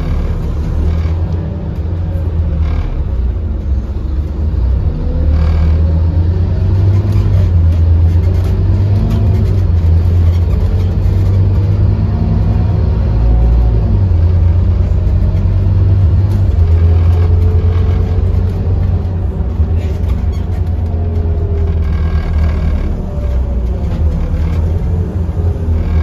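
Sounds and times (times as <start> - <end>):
bus diesel engine accelerating: 0.0 - 26.0.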